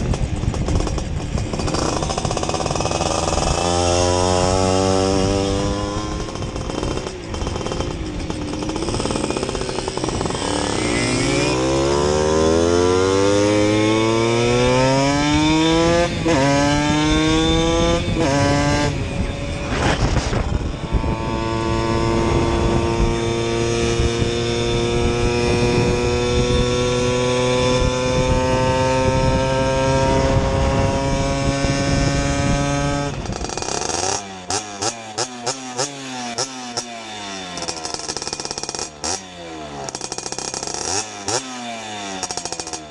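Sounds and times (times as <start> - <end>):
moped engine accelerating: 0.0 - 42.9.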